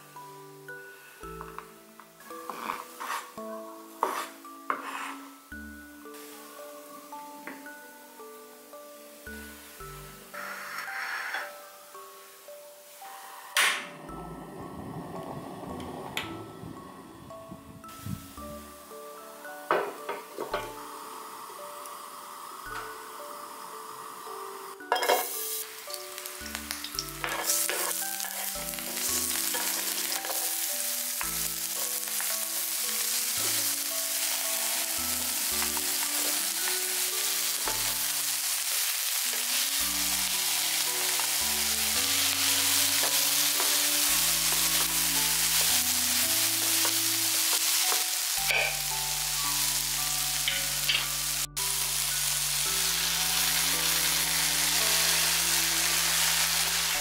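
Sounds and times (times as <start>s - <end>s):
food sizzling in hot oil: 2.2s - 13.2s, 17.8s - 57.0s.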